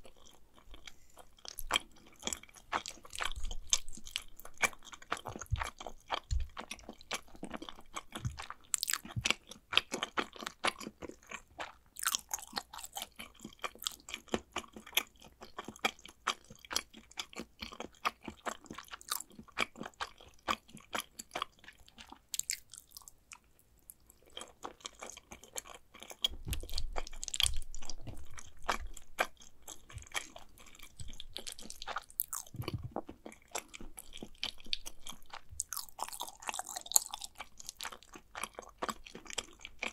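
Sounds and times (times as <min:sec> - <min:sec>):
close chewing with wet mouth clicks: 0:00.0 - 0:39.9.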